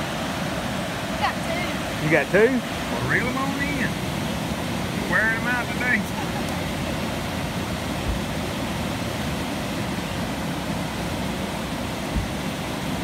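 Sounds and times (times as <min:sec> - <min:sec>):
water roaring through spillway: 0:00.0 - 0:13.0.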